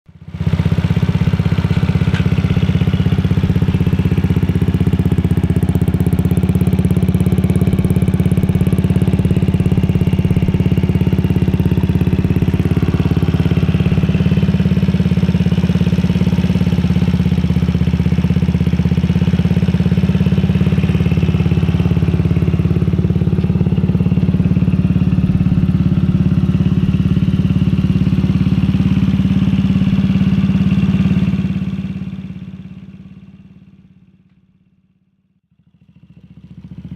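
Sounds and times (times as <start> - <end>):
scooter engine running: 0.1 - 34.2, 35.5 - 36.9.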